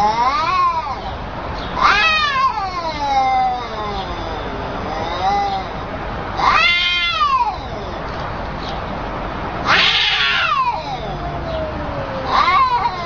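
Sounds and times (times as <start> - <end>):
cats caterwauling: 0.0 - 1.2, 1.8 - 8.5, 9.6 - 13.0.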